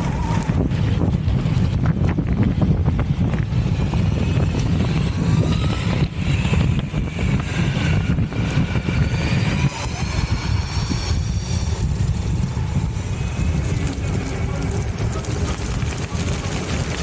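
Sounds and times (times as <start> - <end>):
faint electric motor whine: 0.0 - 17.0
tyres rolling on tarmac: 0.0 - 17.0
wind buffeting microphone: 0.0 - 17.0.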